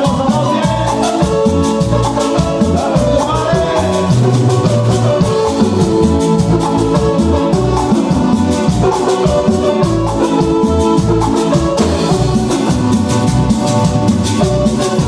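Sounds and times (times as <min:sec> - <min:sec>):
button accordion melody: 0:00.0 - 0:15.0
steady drum beat: 0:00.0 - 0:15.0.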